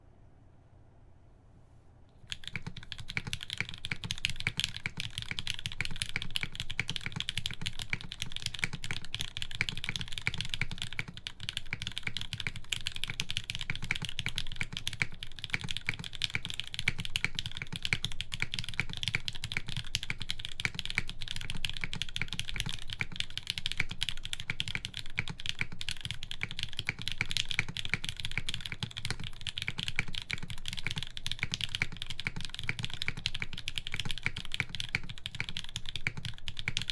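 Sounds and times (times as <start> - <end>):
rapid typing on mechanical keyboard: 2.3 - 36.9.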